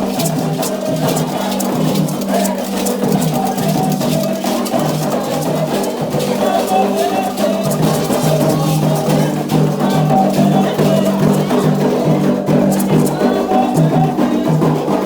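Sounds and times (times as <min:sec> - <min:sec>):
drums and struck percussion: 0:00.0 - 0:15.0
voices singing together: 0:00.0 - 0:15.0.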